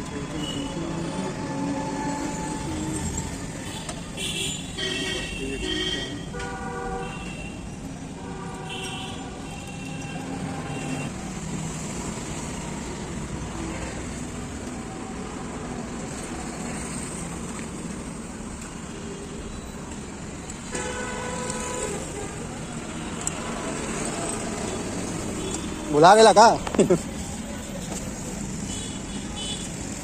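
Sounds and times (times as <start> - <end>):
passing road traffic: 0.0 - 30.0.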